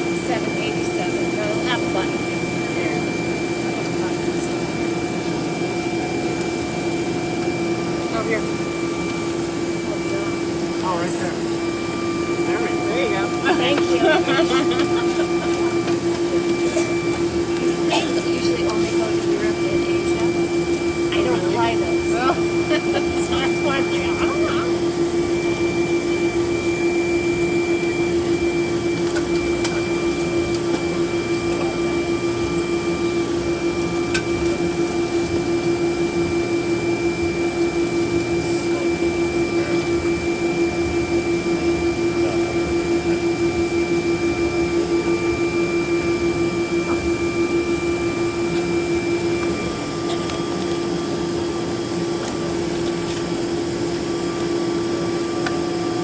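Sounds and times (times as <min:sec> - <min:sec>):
aircraft engines idling: 0:00.0 - 0:56.0
droning tone: 0:00.0 - 0:56.0.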